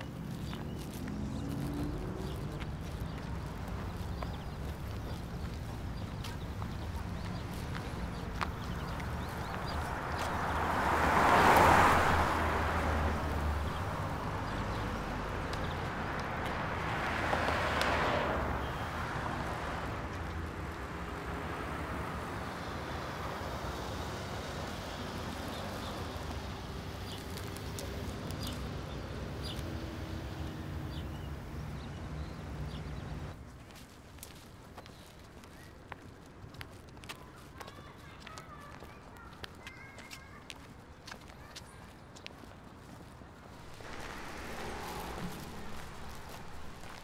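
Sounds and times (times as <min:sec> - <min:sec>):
cars passing by: 0:00.0 - 0:47.0
traffic hum: 0:00.0 - 0:47.0.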